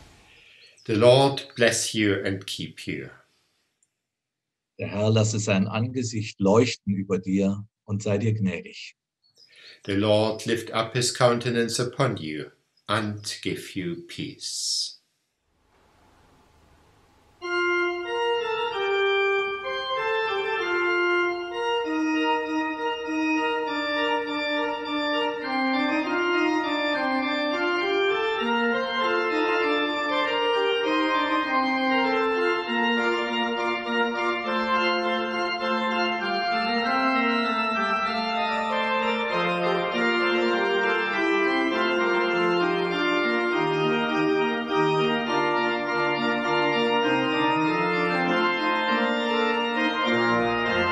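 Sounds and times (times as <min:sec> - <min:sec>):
pipe organ chords: 0:00.0 - 0:03.1, 0:09.5 - 0:14.9, 0:17.4 - 0:50.9.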